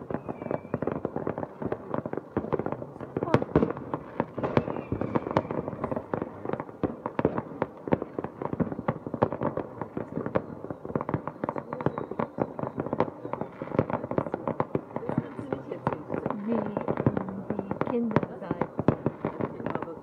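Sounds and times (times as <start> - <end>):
fireworks and firecrackers banging: 0.0 - 20.0.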